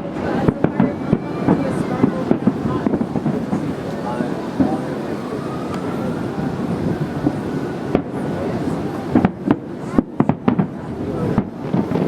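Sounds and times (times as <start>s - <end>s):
fireworks bursting with sharp bangs: 0.0s - 5.1s, 6.6s - 12.0s
steady background noise: 0.0s - 12.0s.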